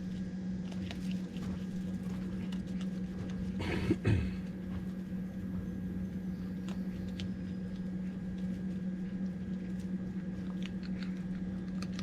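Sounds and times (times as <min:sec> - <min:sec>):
raccoon chewing dry food: 0:00.0 - 0:12.0
steady low hum: 0:00.0 - 0:12.0.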